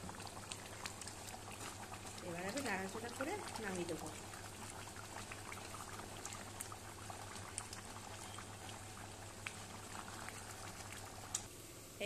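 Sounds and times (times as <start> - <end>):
curry bubbling in a pan: 0.0 - 11.5.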